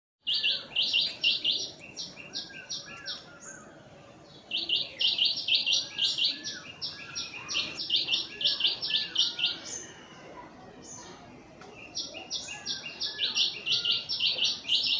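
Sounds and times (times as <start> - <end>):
birds chirping: 0.2 - 14.9.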